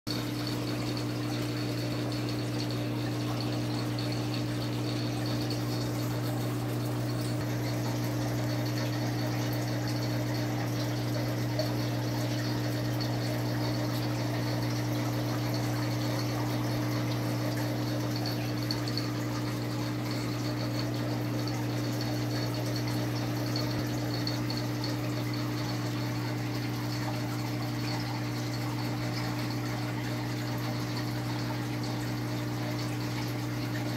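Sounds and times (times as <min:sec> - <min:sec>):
filter pump hum: 0:00.1 - 0:33.9.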